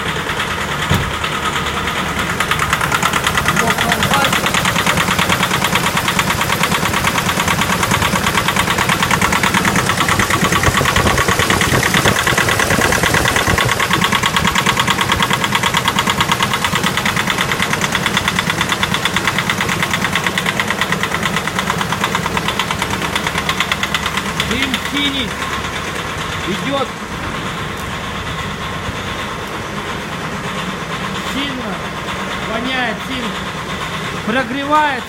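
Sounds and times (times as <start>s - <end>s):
diesel engine idling with knock: 0.0s - 35.0s.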